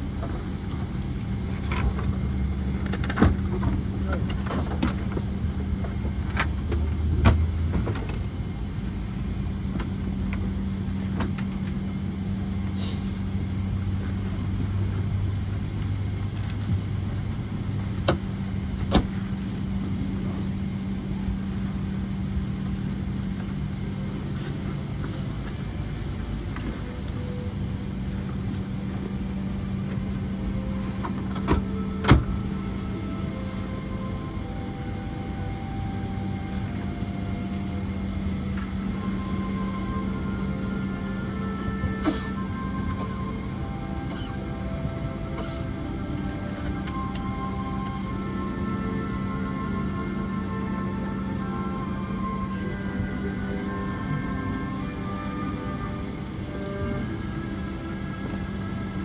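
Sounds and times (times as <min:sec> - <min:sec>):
aircraft systems low hum: 0:00.0 - 0:59.0.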